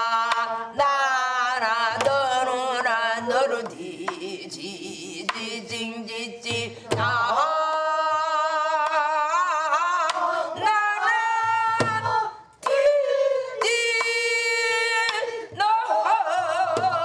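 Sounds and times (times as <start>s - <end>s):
folk singing voice: 0.0s - 17.0s.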